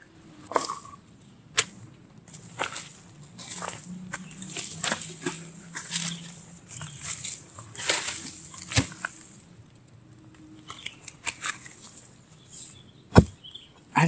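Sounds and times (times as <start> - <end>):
leaves and twigs rustling: 0.4 - 13.7.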